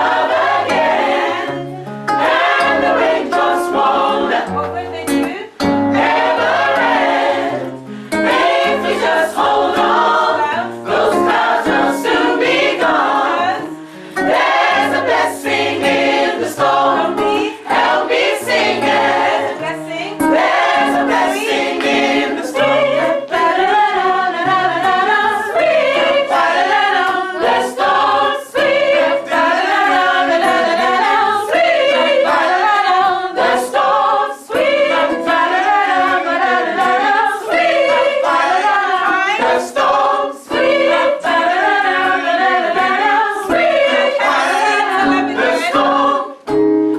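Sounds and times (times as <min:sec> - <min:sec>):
gospel choir singing: 0:00.0 - 0:46.6.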